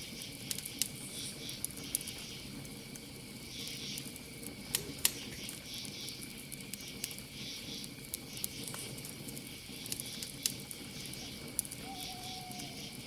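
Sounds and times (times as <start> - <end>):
campfire crackling: 0.0 - 13.0
crickets chirping: 0.0 - 13.0.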